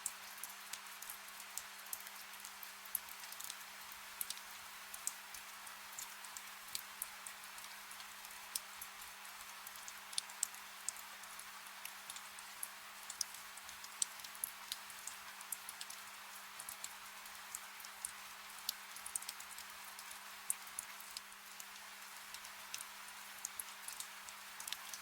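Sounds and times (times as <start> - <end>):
soft rain hiss: 0.0 - 25.0.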